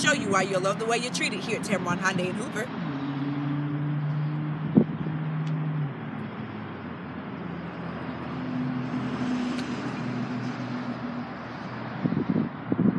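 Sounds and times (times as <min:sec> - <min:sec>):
traffic noise: 0:00.0 - 0:12.9
vehicle engine hum: 0:00.0 - 0:12.9.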